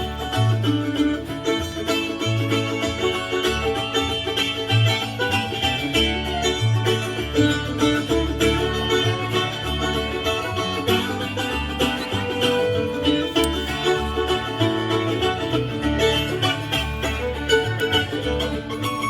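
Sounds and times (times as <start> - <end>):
bluegrass string band playing: 0.0 - 19.0.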